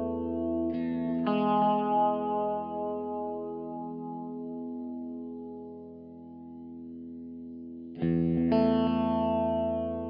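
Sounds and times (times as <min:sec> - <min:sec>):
sustained chord background music: 0:00.0 - 0:10.0.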